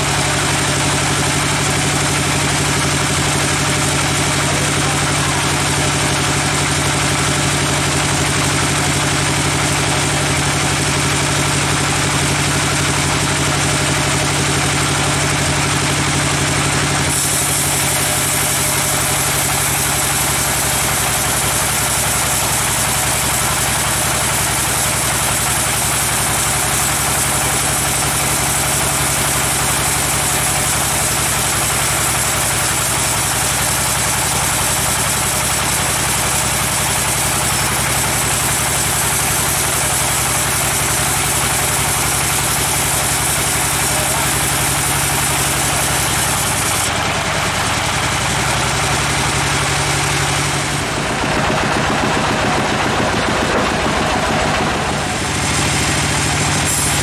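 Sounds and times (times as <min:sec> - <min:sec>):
band saw droning: 0:00.0 - 0:57.0.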